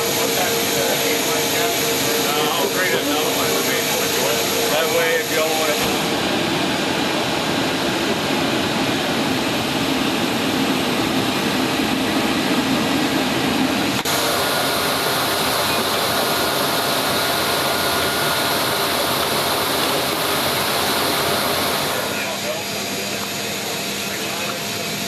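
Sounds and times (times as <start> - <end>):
jet engine rushing: 0.0 - 25.0.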